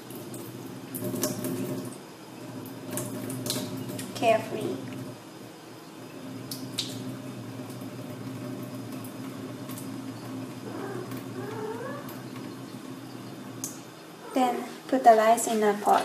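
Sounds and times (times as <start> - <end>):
small drips and clicks: 0.0 - 5.2, 5.9 - 14.0
water trickling: 0.0 - 14.5.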